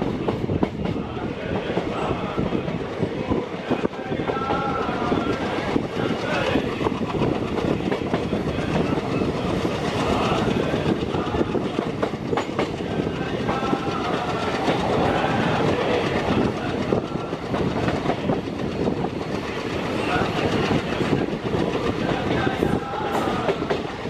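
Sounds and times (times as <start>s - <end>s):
train wheels clattering over rail joints: 0.0s - 1.9s, 3.4s - 24.0s
train running rumble: 0.0s - 24.0s.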